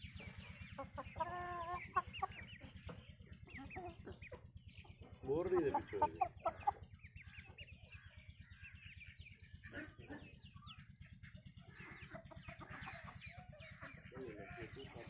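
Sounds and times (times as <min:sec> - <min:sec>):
chickens clucking: 0:00.0 - 0:15.0
low mechanical hum: 0:00.0 - 0:15.0
small birds chirping: 0:00.0 - 0:15.0.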